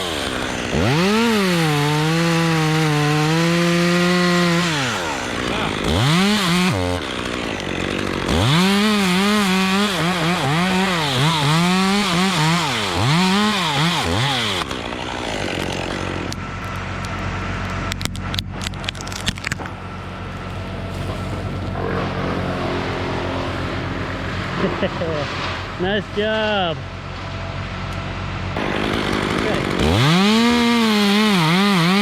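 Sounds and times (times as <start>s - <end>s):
chainsaw revving: 0.0s - 16.8s, 19.9s - 26.7s, 27.8s - 32.0s.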